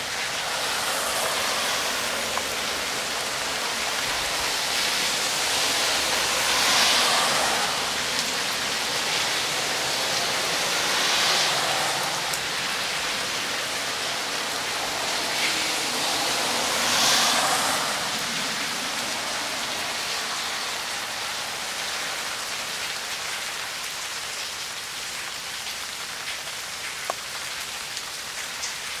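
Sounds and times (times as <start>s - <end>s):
rain pouring: 0.0s - 29.0s.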